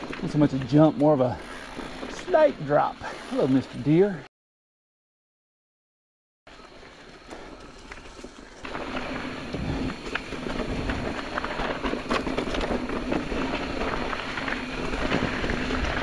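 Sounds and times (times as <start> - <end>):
bike clicks and rattles: 0.0 - 4.2, 6.5 - 16.0
tyres on dirt: 0.0 - 4.2, 6.5 - 16.0.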